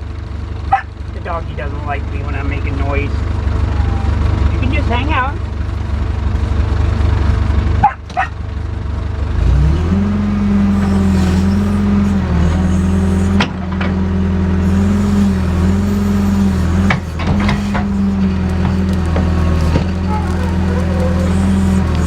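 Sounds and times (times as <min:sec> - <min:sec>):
diesel engine revving: 0:00.0 - 0:22.0.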